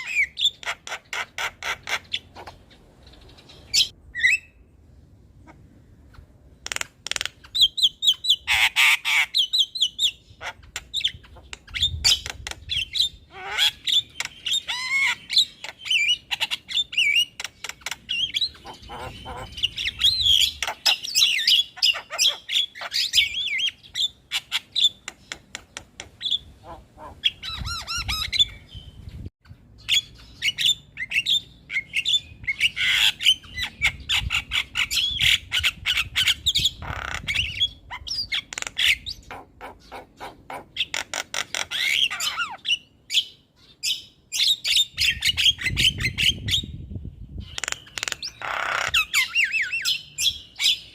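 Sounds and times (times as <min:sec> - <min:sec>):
bird squawking and chattering: 0:00.0 - 0:04.6, 0:05.4 - 0:28.8, 0:29.8 - 0:50.9.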